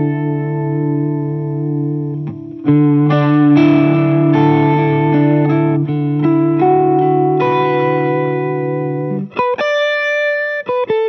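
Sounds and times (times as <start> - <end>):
electric guitar chords with phaser: 0.0 - 11.0.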